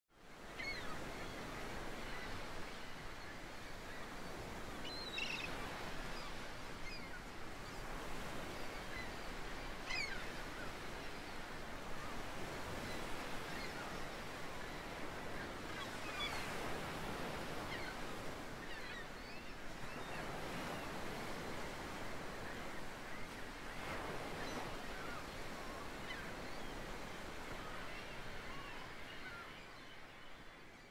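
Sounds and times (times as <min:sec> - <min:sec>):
surf on rocky shore: 0:00.3 - 0:30.8.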